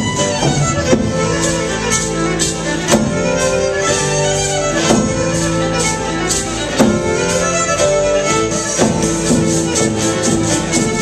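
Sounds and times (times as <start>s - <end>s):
fiddle-led folk fusion band: 0.0s - 11.0s
violin melody: 0.0s - 11.0s.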